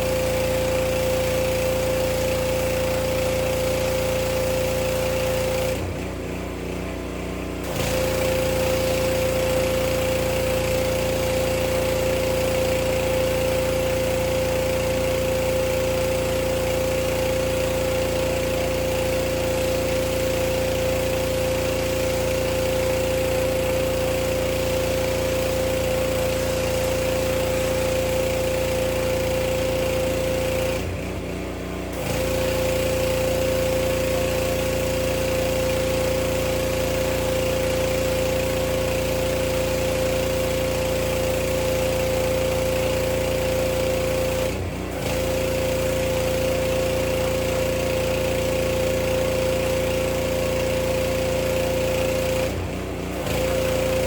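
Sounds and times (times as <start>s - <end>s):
pressure washer engine spraying: 0.0s - 54.0s.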